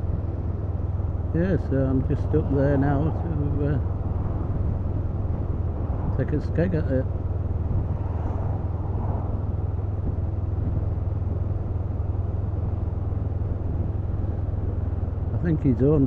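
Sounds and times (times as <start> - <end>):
motorcycle engine low hum: 0.0 - 16.0
road and wind noise: 0.0 - 16.0.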